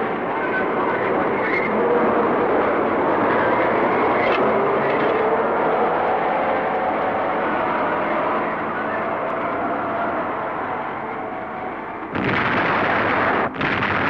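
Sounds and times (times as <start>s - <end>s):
dense engine-like roar: 0.0s - 14.0s.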